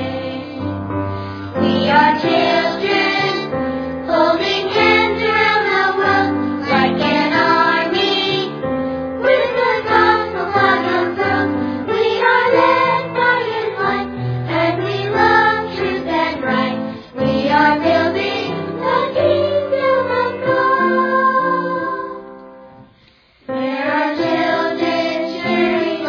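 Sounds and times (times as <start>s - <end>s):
choir singing song: 0.0s - 0.9s, 1.5s - 22.4s, 23.5s - 26.0s.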